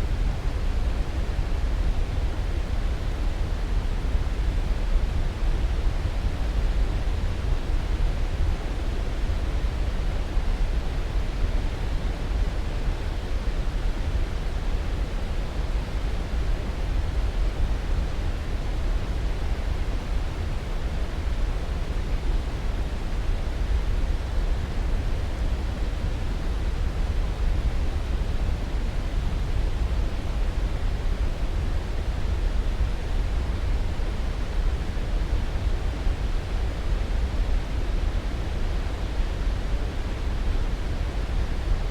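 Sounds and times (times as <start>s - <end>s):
white noise hiss: 0.0s - 41.9s.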